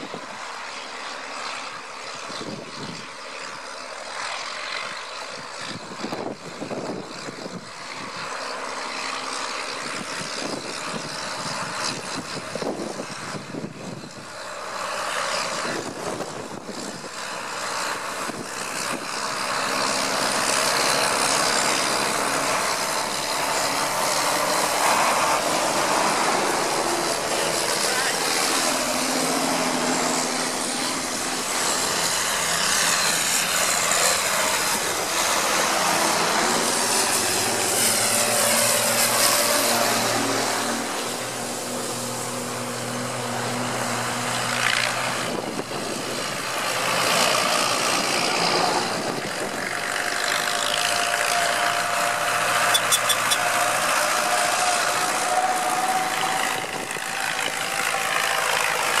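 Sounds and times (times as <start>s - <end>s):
tractor engines driving past: 0.0s - 59.0s.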